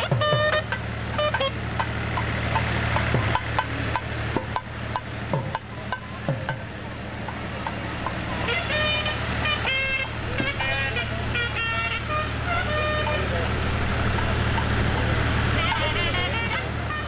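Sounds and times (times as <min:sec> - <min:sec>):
crowd and street noise: 0:00.0 - 0:17.0
drum strokes: 0:00.0 - 0:17.0
steady low hum: 0:00.0 - 0:17.0.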